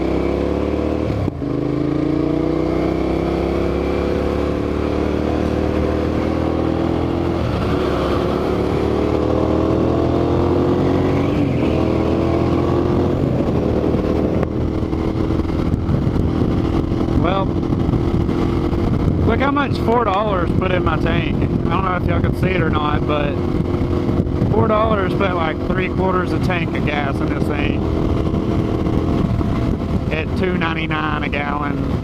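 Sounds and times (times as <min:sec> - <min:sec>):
gear change: 0:00.0 - 0:32.0
motorcycle engine accelerating: 0:00.0 - 0:32.0
wind rushing over microphone: 0:00.0 - 0:32.0.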